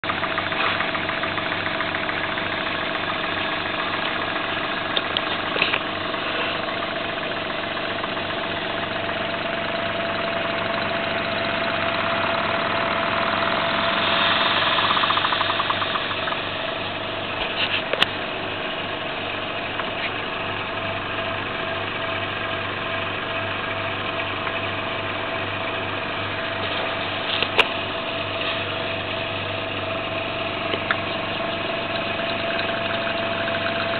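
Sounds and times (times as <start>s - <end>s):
model engine running: 0.0s - 33.9s.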